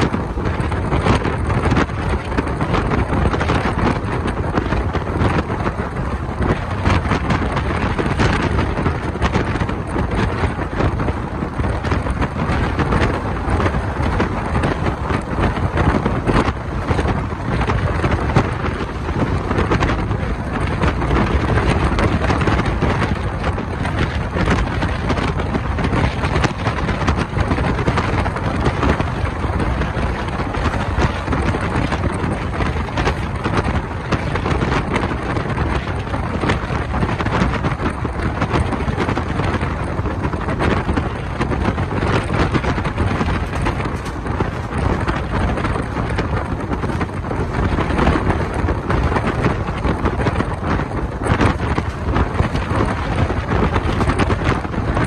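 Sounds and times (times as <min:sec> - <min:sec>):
train wheels on rails: 0:00.0 - 0:55.0
wind buffeting microphone: 0:00.0 - 0:55.0.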